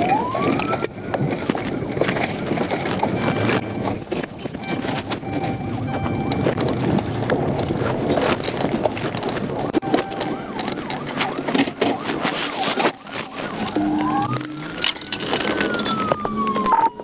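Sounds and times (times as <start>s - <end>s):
police siren wailing: 0.0s - 7.7s, 9.7s - 17.0s
moving vehicle noise: 0.0s - 17.0s.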